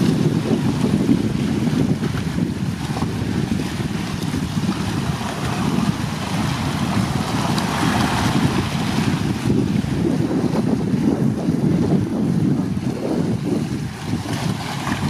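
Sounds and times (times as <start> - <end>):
choppy water: 0.0 - 15.0
wind buffeting microphone: 0.0 - 15.0.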